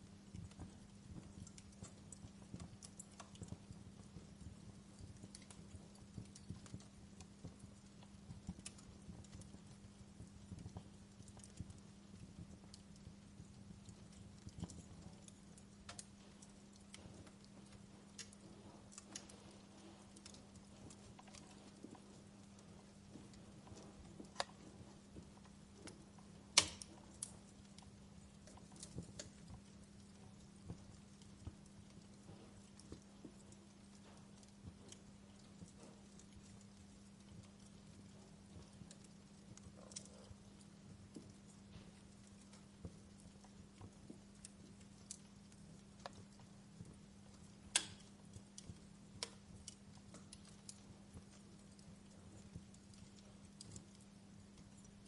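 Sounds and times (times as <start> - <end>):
faint low hum: 0.0 - 55.0
wood fire crackling: 0.0 - 55.0.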